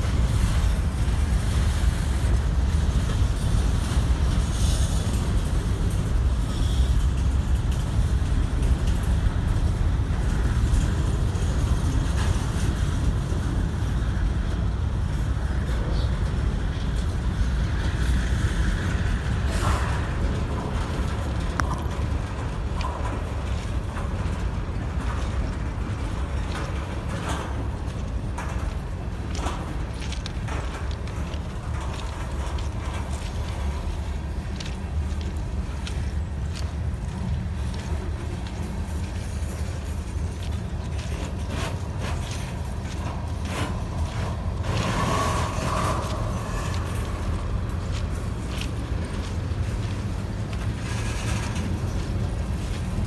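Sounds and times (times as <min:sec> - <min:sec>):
freight train low rumble: 0:00.0 - 0:53.0.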